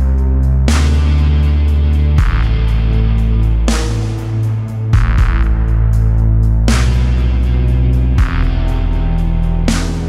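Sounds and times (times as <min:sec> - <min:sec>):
music with deep bass notes: 0:00.0 - 0:10.0.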